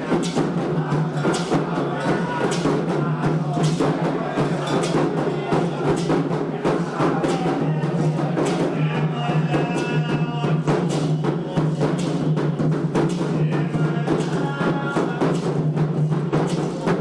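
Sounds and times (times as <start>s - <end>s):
hand drums beating: 0.0s - 17.0s
voices singing a chant: 0.0s - 17.0s.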